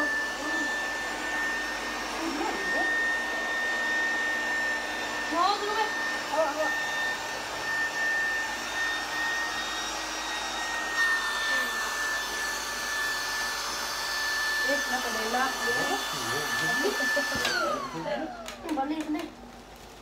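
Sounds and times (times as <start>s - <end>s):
electric air pump whining: 0.0s - 20.0s.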